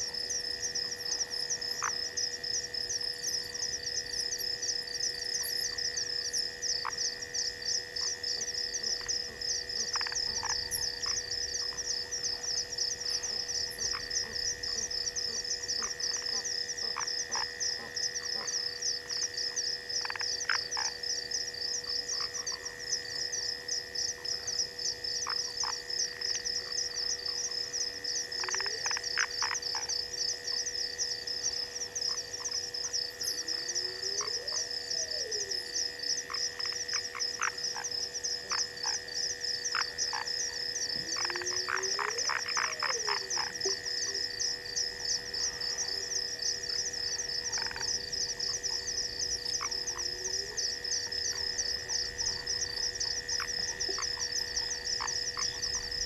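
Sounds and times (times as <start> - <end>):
droning frog calls: 0.0 - 56.0
high pulsing frog trill: 0.0 - 56.0.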